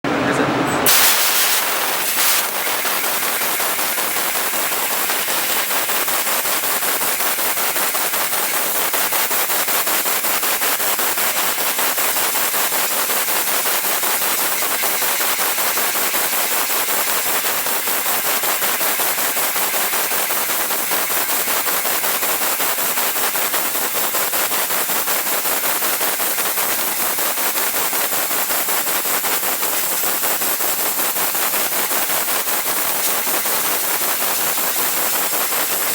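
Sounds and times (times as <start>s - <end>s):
laser cutter crackling hiss: 0.9s - 35.9s.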